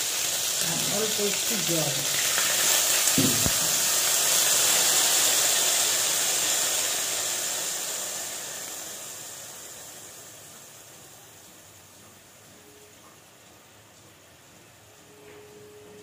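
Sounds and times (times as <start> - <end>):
hot oil sizzling and hissing: 0.0 - 15.8.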